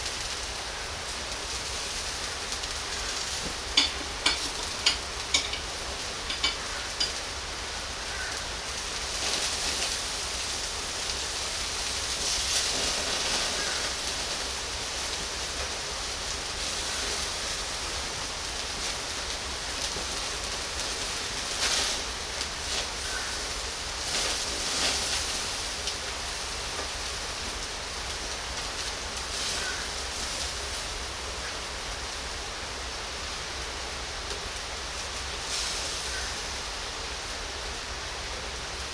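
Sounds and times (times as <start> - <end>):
meat sizzling on a grill: 0.0 - 38.9.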